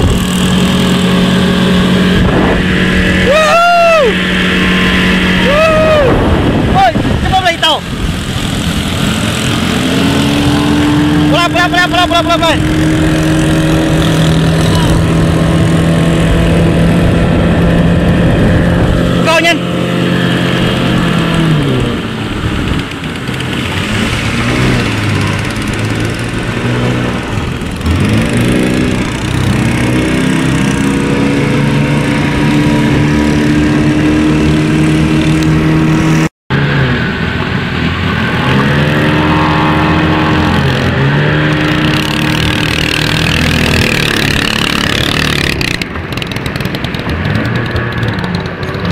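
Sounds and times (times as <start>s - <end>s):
outboard motor running: 0.0s - 48.9s
wind: 0.0s - 48.9s.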